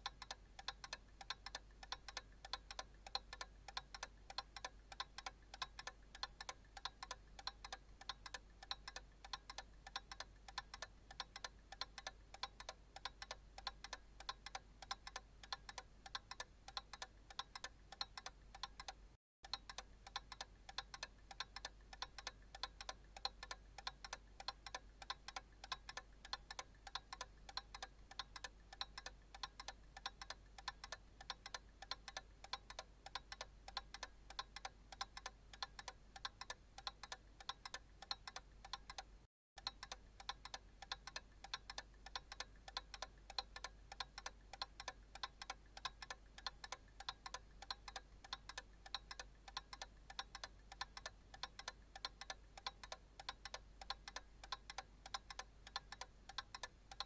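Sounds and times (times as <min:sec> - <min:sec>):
analog clock ticking: 0:00.0 - 0:57.0.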